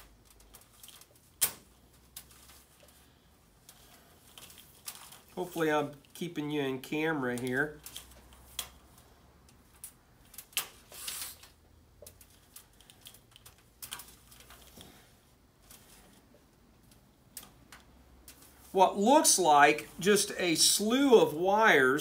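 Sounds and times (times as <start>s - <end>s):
rustle of wires being handled: 0.0s - 22.0s.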